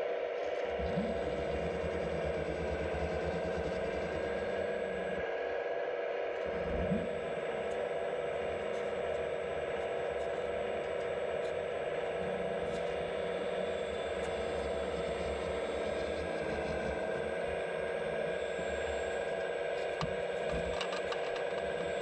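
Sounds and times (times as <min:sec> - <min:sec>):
hydraulic pump whine: 0:00.0 - 0:22.0.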